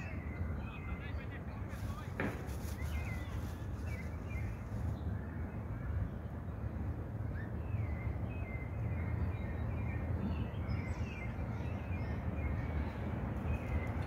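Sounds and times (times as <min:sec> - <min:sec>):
small birds chirping: 0:00.0 - 0:06.4, 0:07.2 - 0:14.0.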